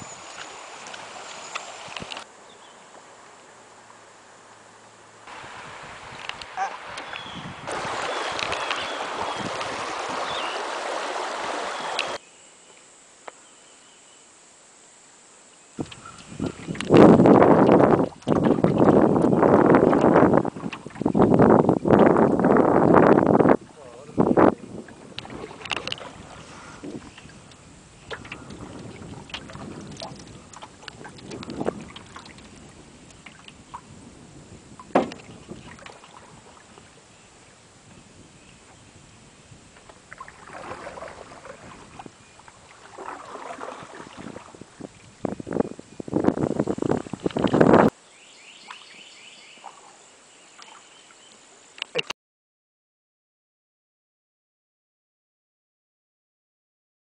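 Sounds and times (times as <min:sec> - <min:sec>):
water rushing along canoe hull: 0:00.0 - 0:12.2, 0:15.8 - 0:52.0.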